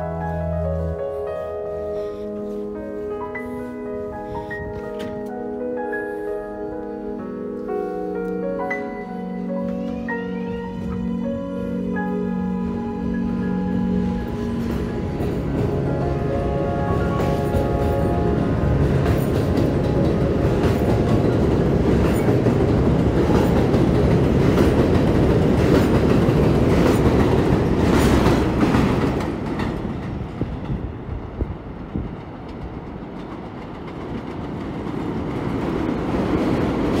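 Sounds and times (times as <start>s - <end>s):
subway train rumble: 0.0s - 37.0s.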